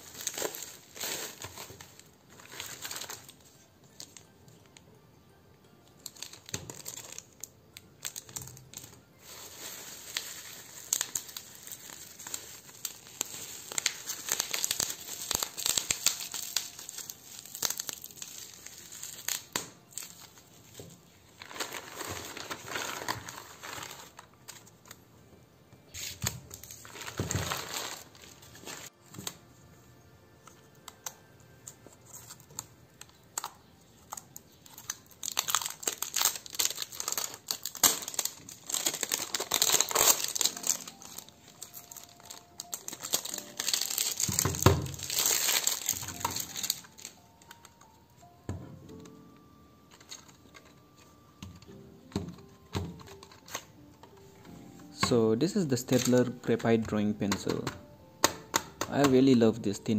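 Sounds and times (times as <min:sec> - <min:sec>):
plastic packaging crinkling and tearing: 0:00.0 - 0:04.8, 0:05.7 - 0:25.0, 0:25.9 - 0:29.5, 0:30.5 - 0:48.3, 0:49.8 - 0:56.6.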